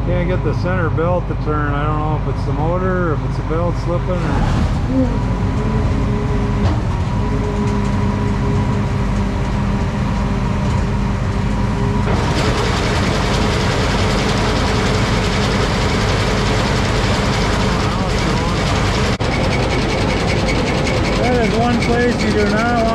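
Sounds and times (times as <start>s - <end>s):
combine engine running: 0.0s - 22.9s
machinery rattling and clattering: 0.0s - 22.9s.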